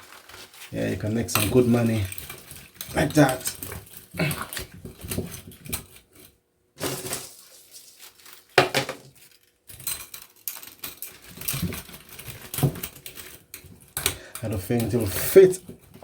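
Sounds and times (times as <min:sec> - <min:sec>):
copper wire rustling and clinking: 0:00.0 - 0:16.0.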